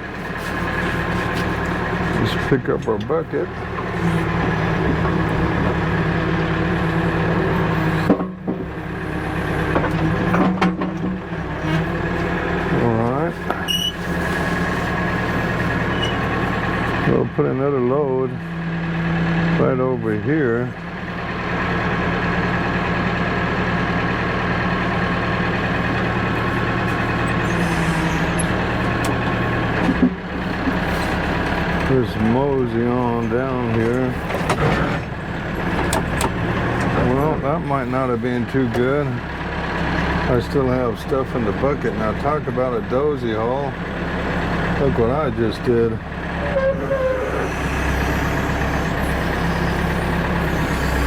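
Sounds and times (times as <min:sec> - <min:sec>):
backhoe engine running: 0:00.0 - 0:51.0.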